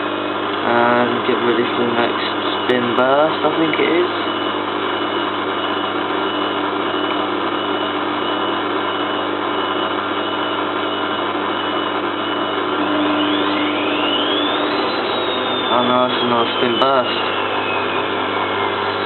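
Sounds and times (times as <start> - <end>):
motor whine during spin: 0.0 - 19.0.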